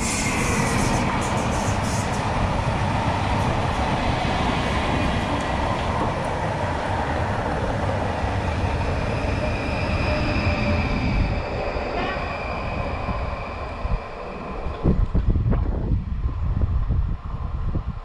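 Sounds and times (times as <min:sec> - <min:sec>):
train wheels rolling on rails: 0:00.0 - 0:16.1.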